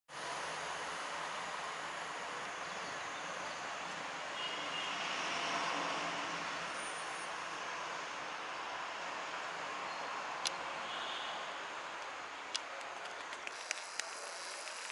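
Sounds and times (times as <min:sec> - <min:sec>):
street ambience: 0:00.1 - 0:14.9.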